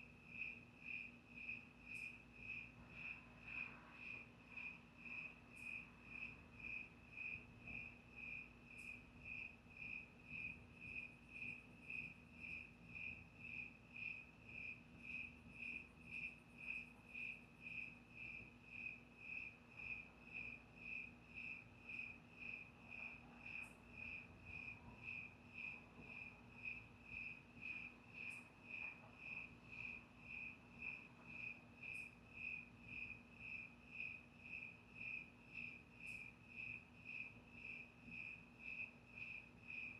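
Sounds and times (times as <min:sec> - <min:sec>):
cricket chirping: 0:00.0 - 0:39.9
faint low hum: 0:00.0 - 0:39.9.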